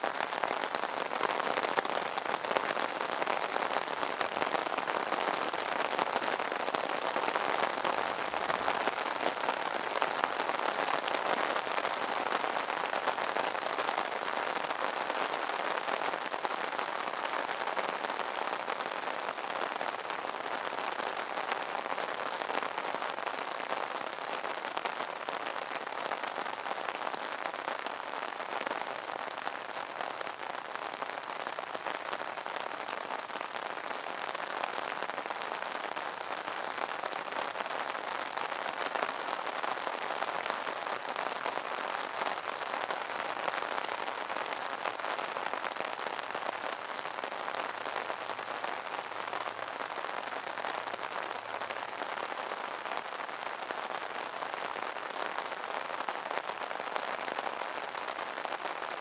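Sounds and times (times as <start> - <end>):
rain on umbrella: 0.0 - 59.0.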